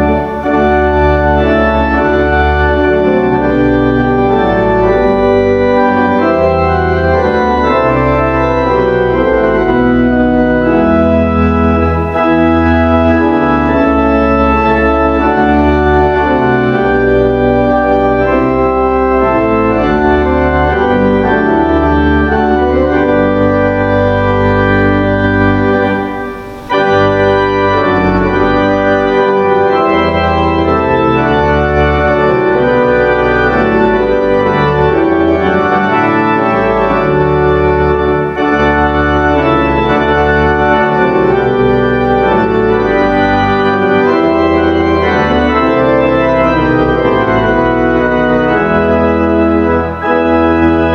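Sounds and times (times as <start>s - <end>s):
church organ chords: 0.0s - 50.9s.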